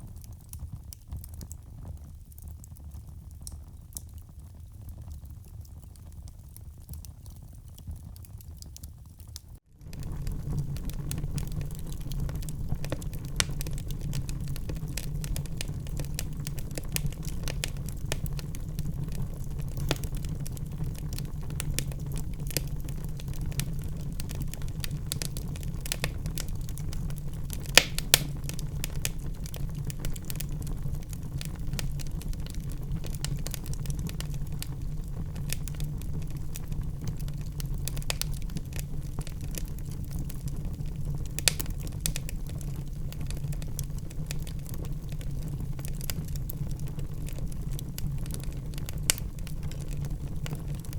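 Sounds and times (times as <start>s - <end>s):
fire crackling: 0.0s - 50.9s
fire pops: 6.8s - 50.9s.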